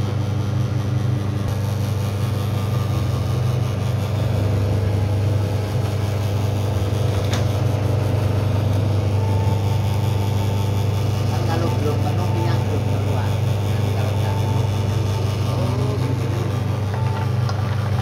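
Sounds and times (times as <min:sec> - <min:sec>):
oil press mechanical hum: 0:00.0 - 0:18.0.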